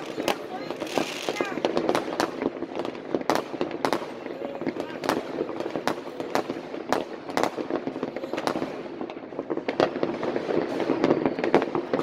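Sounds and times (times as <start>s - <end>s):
distant fireworks din: 0.0s - 12.0s
firework bangs and crackles: 0.0s - 12.0s.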